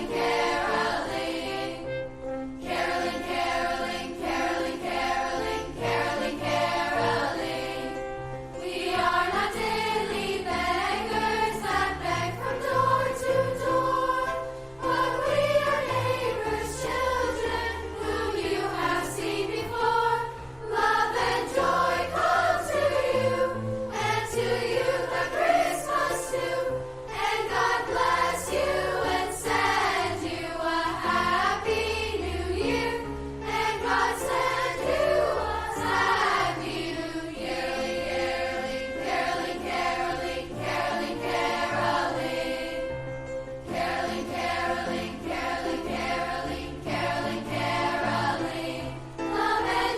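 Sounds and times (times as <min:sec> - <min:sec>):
choir singing in harmony: 0:00.0 - 0:49.9.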